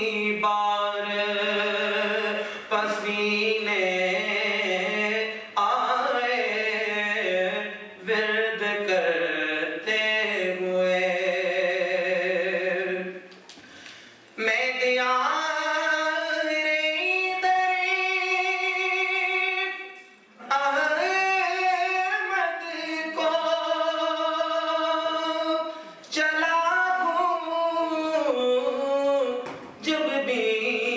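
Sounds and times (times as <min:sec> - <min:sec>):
man singing a slow chant: 0:00.0 - 0:13.2, 0:14.4 - 0:30.9.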